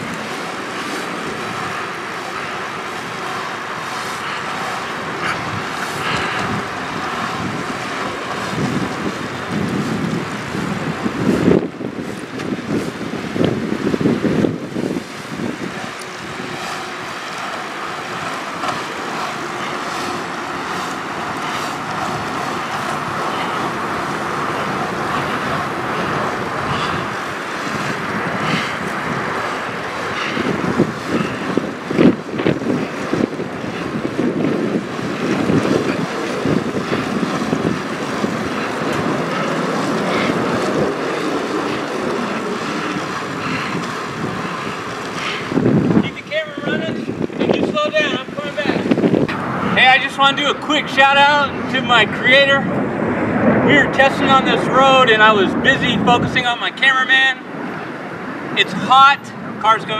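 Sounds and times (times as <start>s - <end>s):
wheels rolling on asphalt: 0.0s - 59.9s
wind buffeting microphone: 0.0s - 59.9s.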